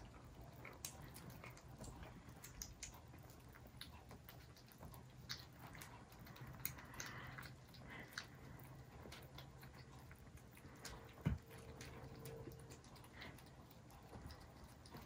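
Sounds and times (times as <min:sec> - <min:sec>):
kittens crunching dry food: 0:00.0 - 0:15.0.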